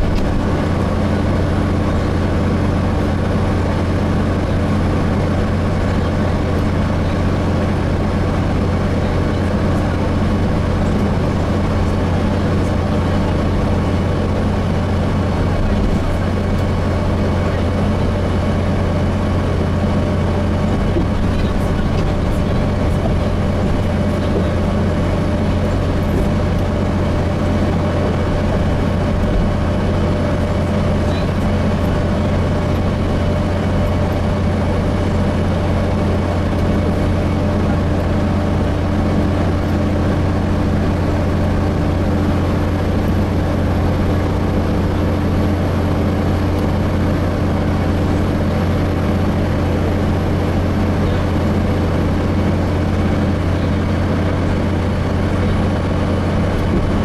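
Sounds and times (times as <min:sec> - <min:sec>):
bus engine drone from inside: 0:00.0 - 0:57.0.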